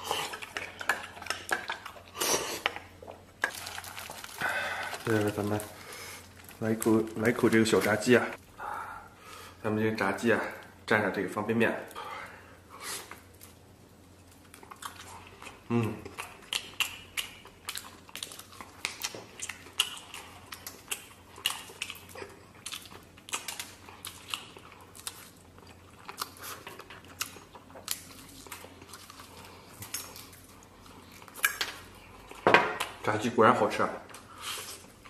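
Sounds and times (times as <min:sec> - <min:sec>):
man chewing crispy fried chicken: 0:00.0 - 0:07.9, 0:11.9 - 0:33.0.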